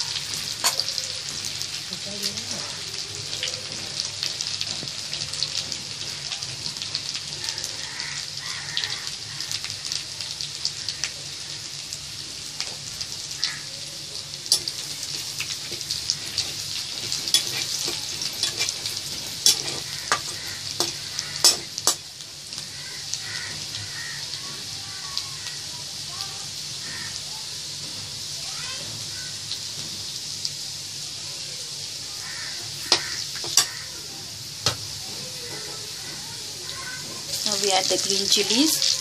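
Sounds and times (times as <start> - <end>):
garlic and ginger sizzling in oil: 0.0 - 39.0.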